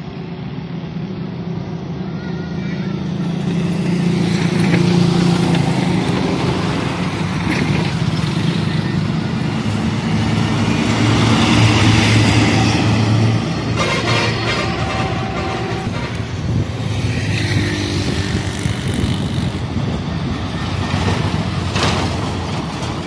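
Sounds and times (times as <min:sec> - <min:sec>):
loud vehicle engine running: 0:02.9 - 0:23.0.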